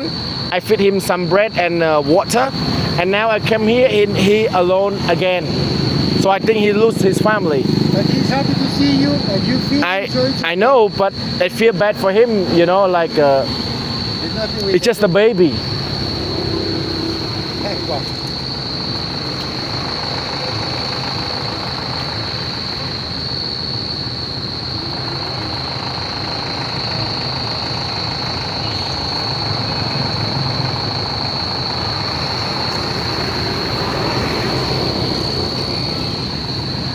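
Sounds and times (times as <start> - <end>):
high-pitched whine: 0.0 - 36.9.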